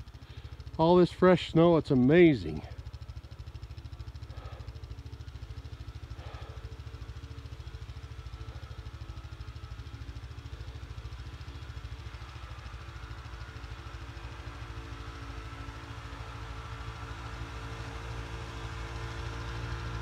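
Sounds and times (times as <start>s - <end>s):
vehicle engine pushing through snow: 0.0s - 20.0s.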